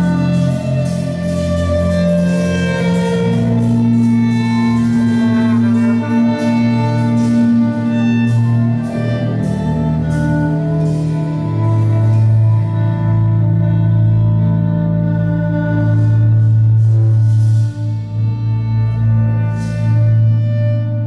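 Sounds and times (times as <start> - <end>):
low sustained bass: 0.0 - 21.0
trumpet: 0.0 - 21.0
violins bowing melody: 0.0 - 21.0.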